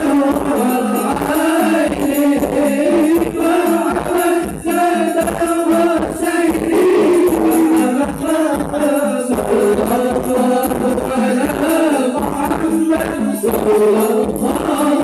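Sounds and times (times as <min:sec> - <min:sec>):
devotional group singing: 0:00.0 - 0:15.0
hand drum and jingle beat: 0:00.0 - 0:15.0.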